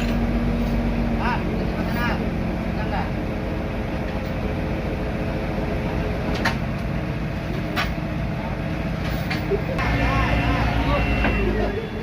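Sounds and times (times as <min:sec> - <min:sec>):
rubber mill humming: 0:00.0 - 0:12.0.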